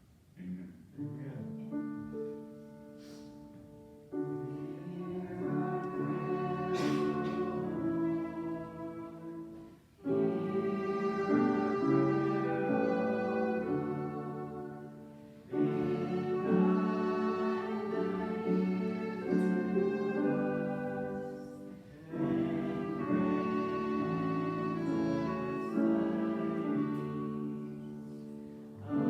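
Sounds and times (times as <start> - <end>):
slow instrumental music: 1.1 - 29.0.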